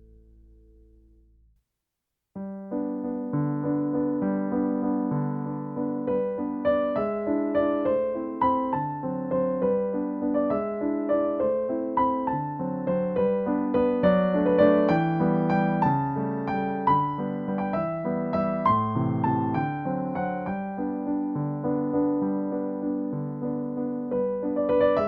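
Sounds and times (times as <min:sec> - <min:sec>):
soft piano music: 0:02.4 - 0:25.0.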